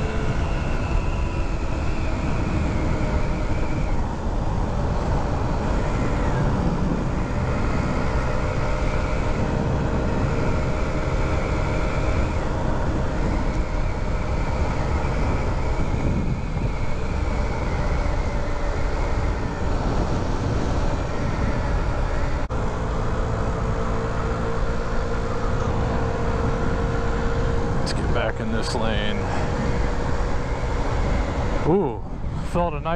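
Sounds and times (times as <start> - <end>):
scooter engine running: 0.0 - 32.3
wind and road noise: 0.0 - 32.9.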